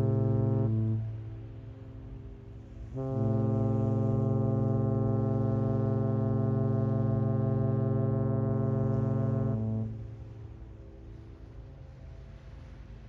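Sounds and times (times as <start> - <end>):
ship horn long blast: 0.0 - 11.1.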